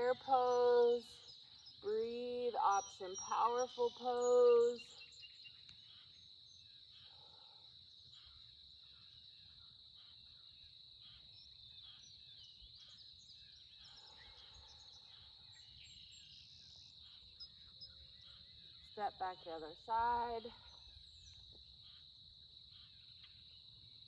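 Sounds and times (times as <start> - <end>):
bird chirps: 0.0 - 22.1
faint high-pitched insect trill: 0.0 - 24.0.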